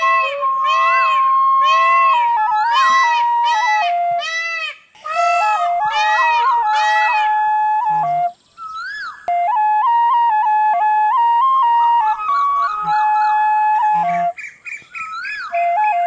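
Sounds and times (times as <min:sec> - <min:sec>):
flute melody: 0:00.0 - 0:16.0.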